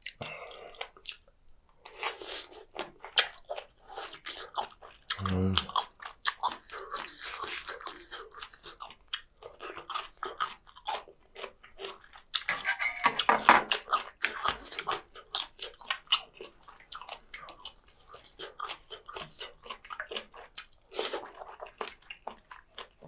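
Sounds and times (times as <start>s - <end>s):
person chewing food: 0.0s - 12.5s, 13.2s - 23.0s.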